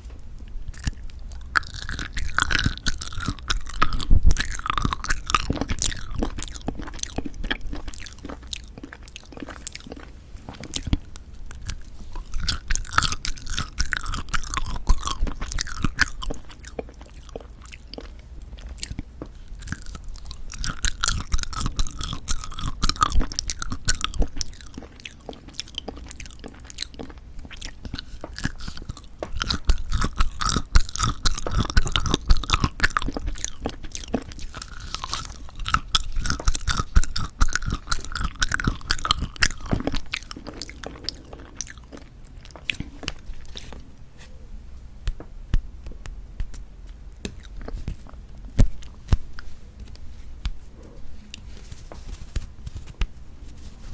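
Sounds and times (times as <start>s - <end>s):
chewing jelly candies: 0.4s - 44.0s, 45.1s - 51.5s.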